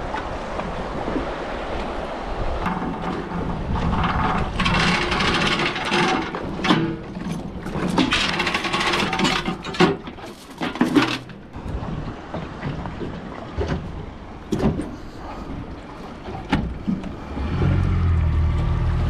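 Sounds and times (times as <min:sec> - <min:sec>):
water noise: 0:00.0 - 0:19.0
wind: 0:00.0 - 0:19.0
knocks and rattles from hull: 0:02.6 - 0:18.7
outboard motor running: 0:02.7 - 0:19.0.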